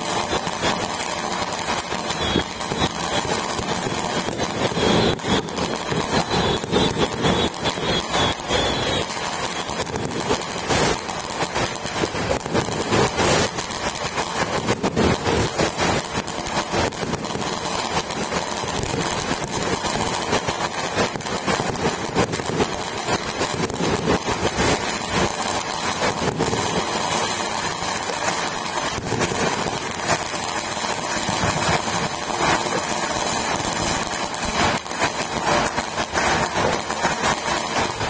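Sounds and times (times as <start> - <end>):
fireworks and firecrackers crackling: 0.0 - 38.0.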